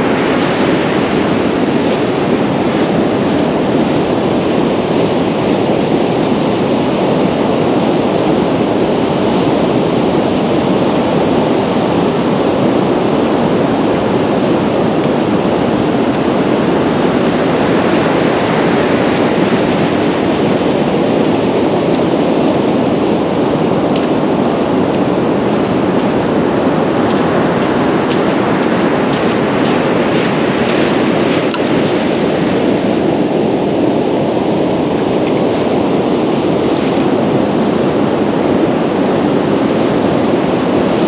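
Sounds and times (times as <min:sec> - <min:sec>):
surf breaking on beach: 0:00.0 - 0:41.0
wind on microphone: 0:00.0 - 0:41.0.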